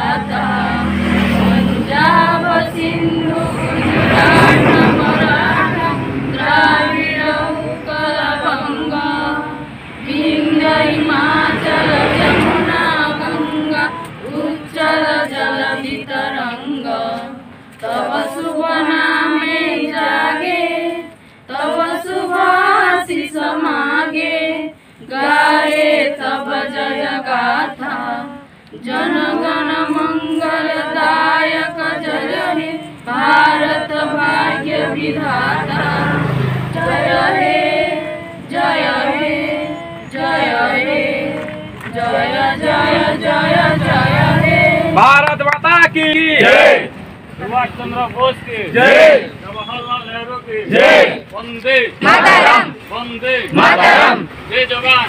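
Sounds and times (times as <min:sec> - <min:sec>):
women singing in unison: 0:00.0 - 0:45.0, 0:52.0 - 0:52.8, 0:53.5 - 0:54.3.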